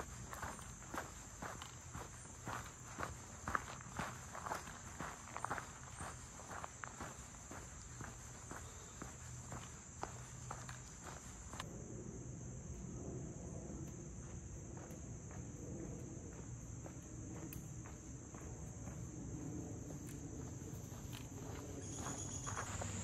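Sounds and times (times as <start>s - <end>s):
footsteps on dirt trail: 0.0s - 11.7s, 14.0s - 23.0s
insects chirping: 0.0s - 23.0s.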